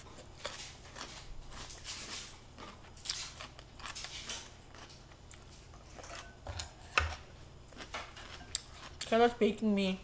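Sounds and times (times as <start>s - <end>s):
person chewing crunchy food: 0.0s - 9.4s.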